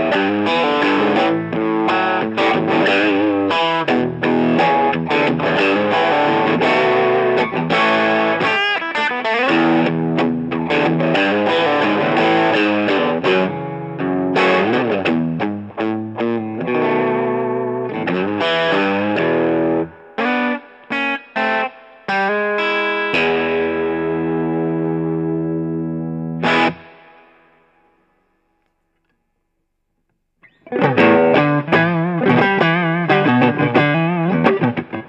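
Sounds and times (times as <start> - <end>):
overdriven electric guitar: 0.0 - 28.1, 30.4 - 35.0.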